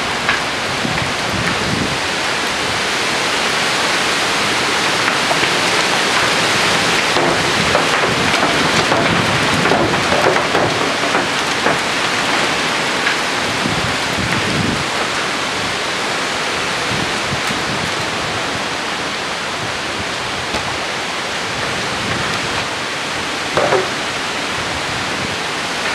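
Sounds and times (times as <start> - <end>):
strong wind gusting: 0.0 - 25.9.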